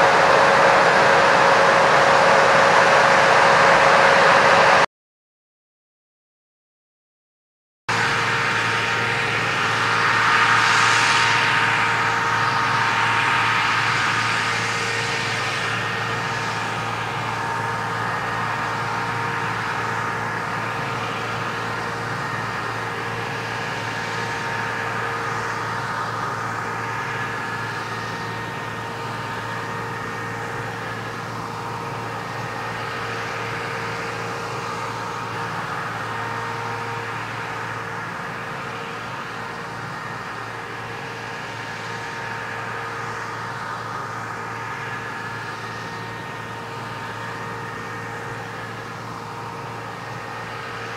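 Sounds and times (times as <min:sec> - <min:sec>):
combine harvester humming: 0:00.0 - 0:04.9, 0:07.9 - 0:50.9.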